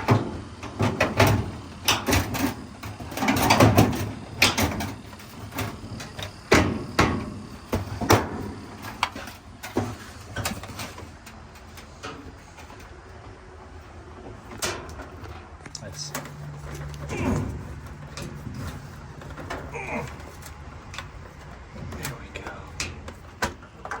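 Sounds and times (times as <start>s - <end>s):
metal panels clicking and clattering: 0.0s - 13.1s, 14.4s - 24.0s.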